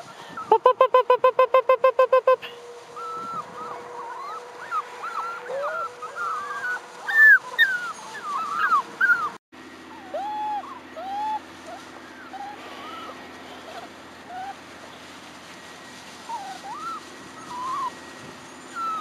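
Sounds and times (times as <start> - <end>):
puppies whining and yipping: 0.0 - 19.0.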